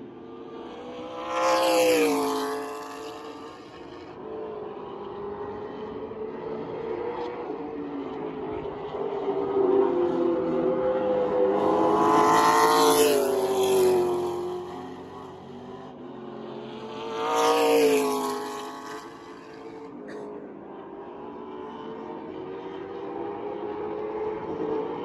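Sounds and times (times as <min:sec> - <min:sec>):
distant race car engines: 0:00.0 - 0:25.0
race cars passing at speed: 0:00.0 - 0:25.0.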